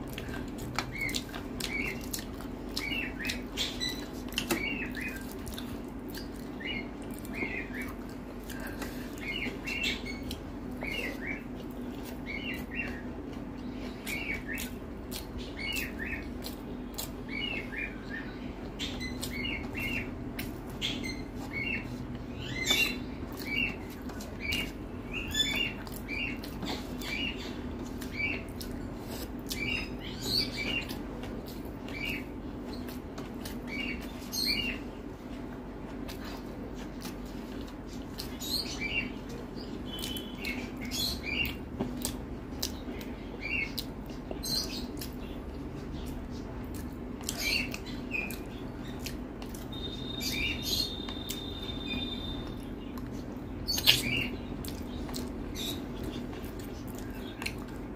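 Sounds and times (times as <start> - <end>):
steady low hum: 0.0 - 57.9
wet chewing and lip-smacking: 0.0 - 57.9.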